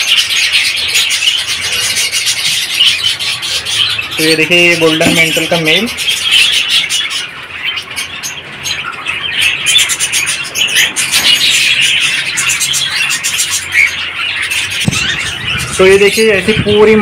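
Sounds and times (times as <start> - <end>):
parrots chattering and chirping: 0.0 - 17.0.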